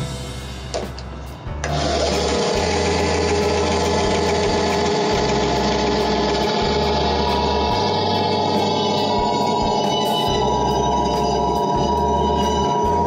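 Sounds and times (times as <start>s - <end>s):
background music: 0.0s - 13.0s
bandsaw running: 1.6s - 13.0s.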